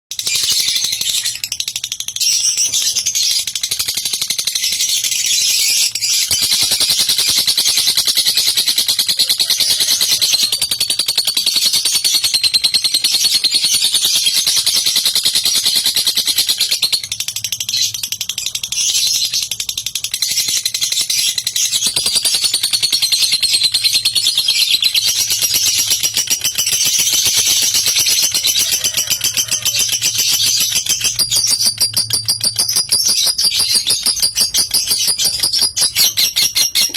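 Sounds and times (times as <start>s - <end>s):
bird chattering trill: 0.2s - 36.9s.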